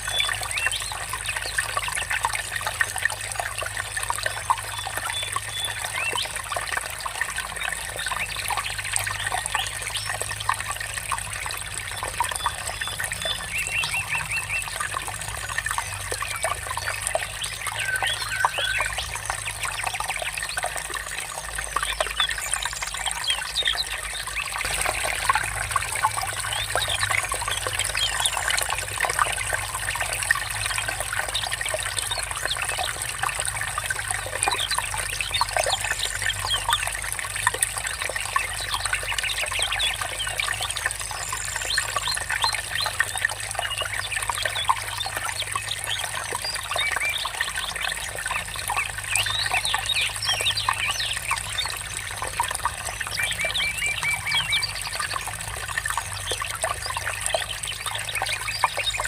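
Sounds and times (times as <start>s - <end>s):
water trickling and babbling: 0.0s - 59.0s.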